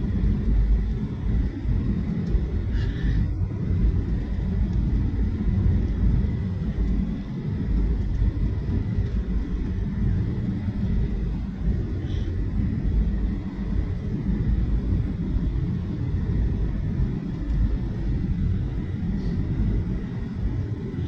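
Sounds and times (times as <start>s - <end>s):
jet airliner engines rumbling: 0.0s - 21.0s.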